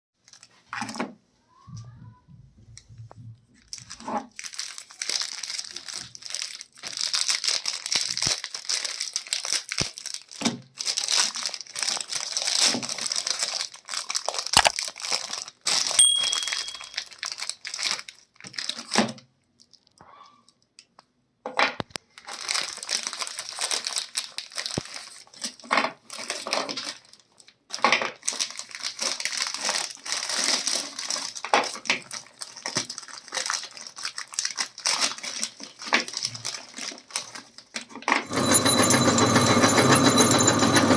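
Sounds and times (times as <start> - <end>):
packaging crinkling and rustling: 0.2 - 1.1, 2.7 - 21.1, 21.8 - 38.3.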